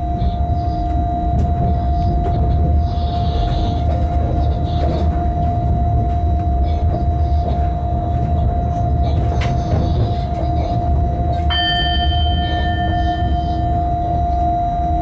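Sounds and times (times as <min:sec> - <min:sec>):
constant whine: 0:00.0 - 0:15.0
high ringing tone: 0:00.0 - 0:15.0
train low rumble: 0:00.0 - 0:15.0.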